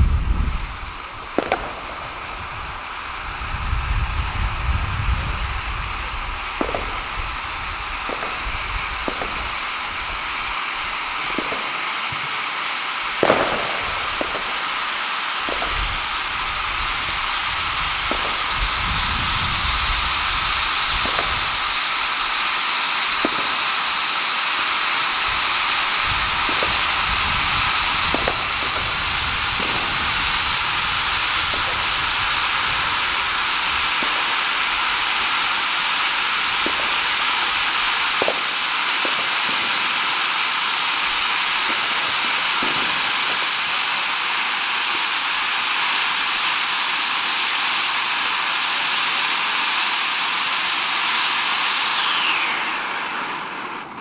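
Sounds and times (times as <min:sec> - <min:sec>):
fountain firework hissing sparks: 0:00.0 - 0:54.0.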